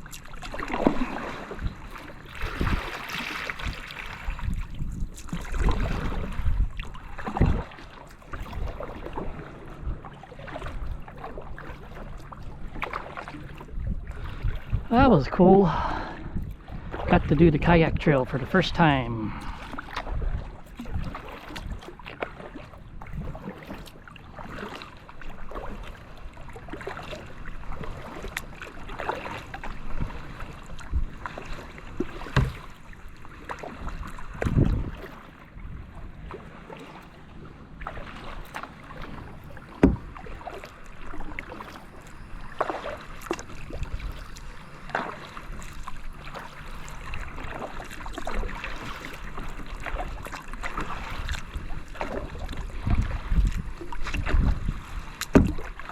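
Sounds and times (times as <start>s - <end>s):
paddle splashing in water: 0.0s - 55.9s.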